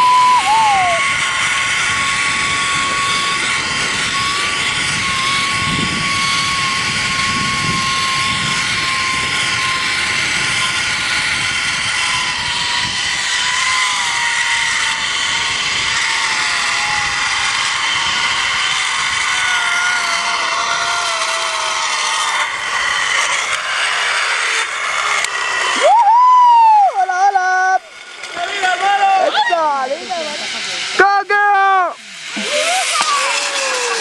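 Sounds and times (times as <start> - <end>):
zipline pulley whine: 0.0 - 34.0.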